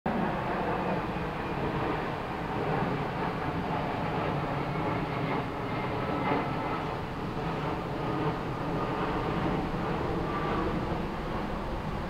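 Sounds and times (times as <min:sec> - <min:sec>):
rumble of vehicles: 0:00.1 - 0:12.0.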